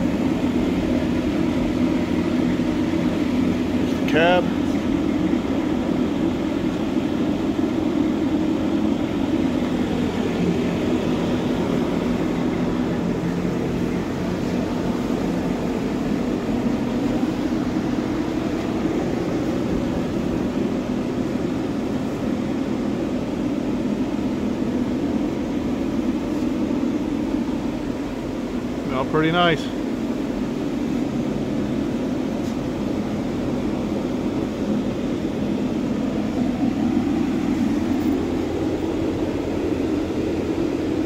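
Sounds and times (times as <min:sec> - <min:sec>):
ventilation fan drone: 0:00.0 - 0:41.0.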